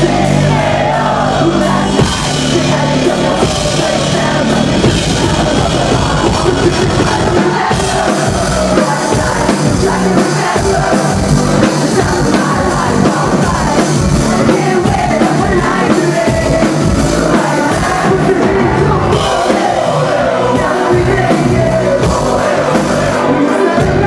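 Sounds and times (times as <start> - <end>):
live rock music: 0.0 - 24.0
man singing and shouting: 0.0 - 24.0.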